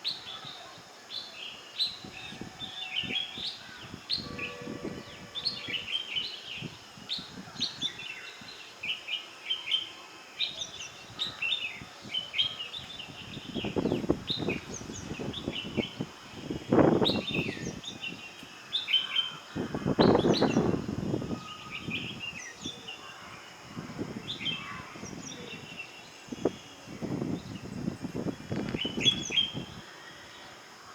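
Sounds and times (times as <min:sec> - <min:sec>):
birds chirping: 0:00.0 - 0:30.5.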